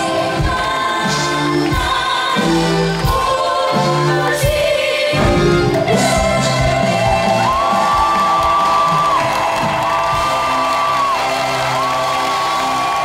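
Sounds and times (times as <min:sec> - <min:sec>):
group of voices singing: 0:00.0 - 0:13.0
live band playing pop tune: 0:00.0 - 0:13.0.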